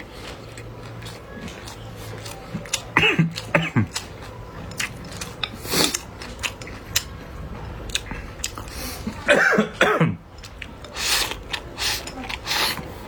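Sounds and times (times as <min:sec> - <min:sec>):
chewing and biting: 0:00.0 - 0:09.3, 0:10.4 - 0:13.0.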